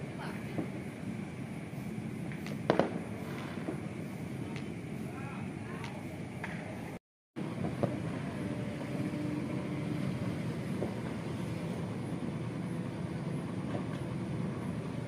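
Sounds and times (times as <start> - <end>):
distant fireworks popping: 0.0 - 9.0, 9.9 - 15.0
steady outdoor rumble: 0.0 - 15.0.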